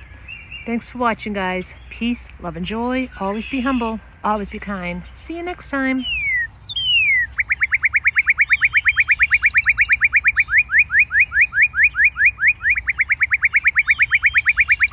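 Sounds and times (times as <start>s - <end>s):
other birds chirping: 0.0s - 14.9s
songbird singing: 0.0s - 14.9s.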